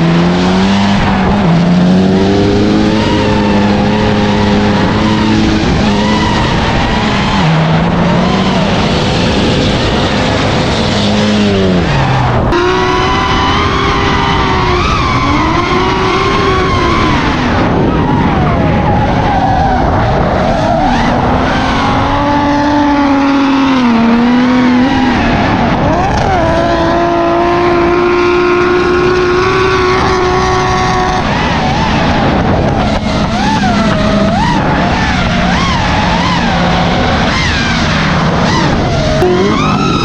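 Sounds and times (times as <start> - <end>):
car engines revving: 0.0 - 40.0
tyres skidding: 0.0 - 40.0.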